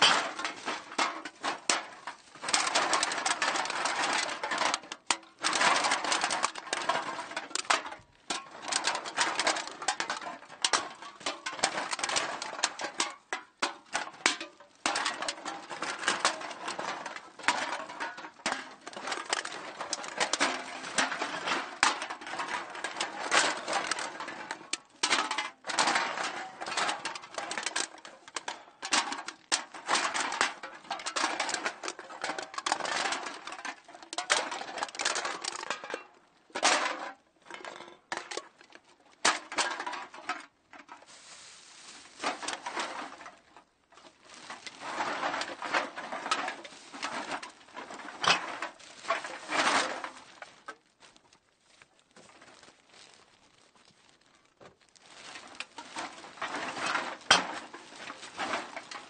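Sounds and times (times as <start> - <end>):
metal cans clattering into bag: 0.0 - 59.0.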